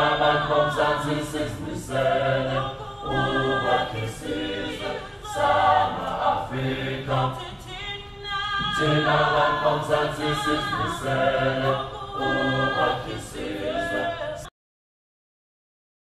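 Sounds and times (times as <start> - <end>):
group singing a cappella: 0.0 - 14.5.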